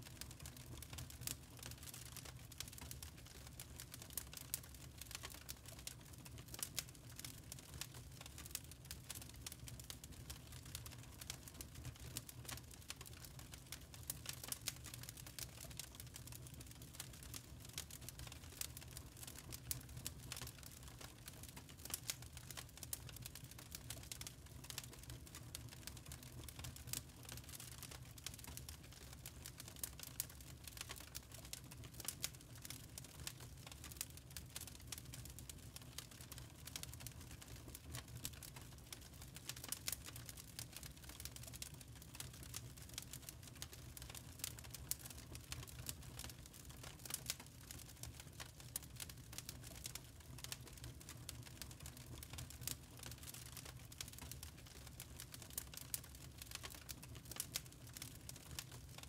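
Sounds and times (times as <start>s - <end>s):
charcoal crackling and popping: 0.1s - 59.0s.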